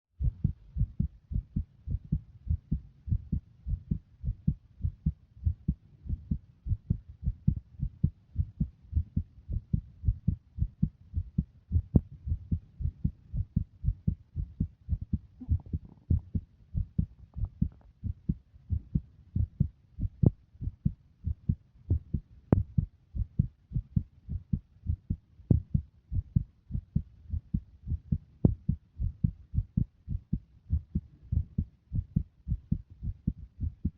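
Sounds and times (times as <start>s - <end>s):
heartbeat thumps: 0.2s - 33.9s.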